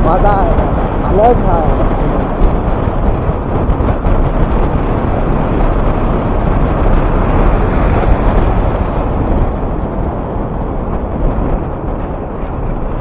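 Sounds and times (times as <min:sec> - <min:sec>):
motorcycle engine: 0:00.0 - 0:13.0
road noise: 0:00.0 - 0:13.0
wind buffeting microphone: 0:00.0 - 0:13.0.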